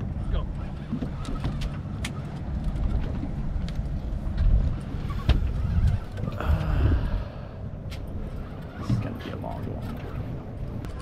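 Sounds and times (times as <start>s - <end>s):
boat engine rumble: 0.0s - 11.0s
wind on deck: 0.0s - 11.0s.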